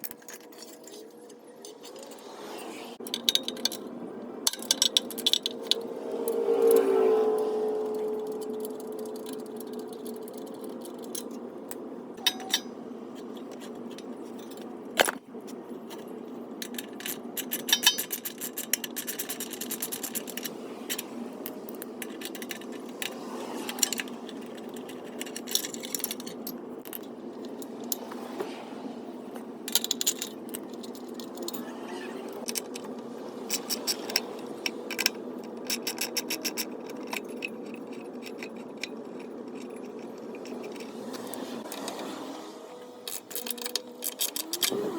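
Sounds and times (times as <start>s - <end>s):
metal tools clinking and scraping: 0.0s - 44.9s.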